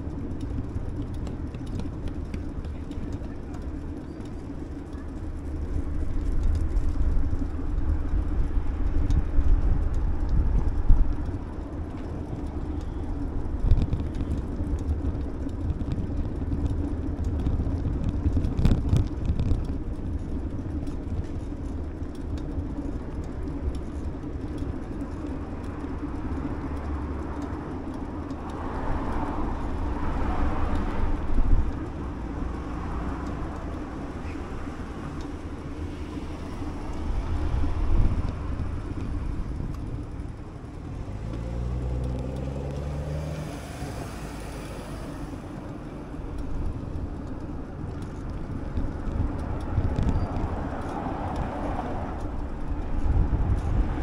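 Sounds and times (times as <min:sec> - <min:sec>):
road traffic: 0:00.0 - 0:54.0
wind and bicycle tyres rumbling: 0:00.0 - 0:54.0.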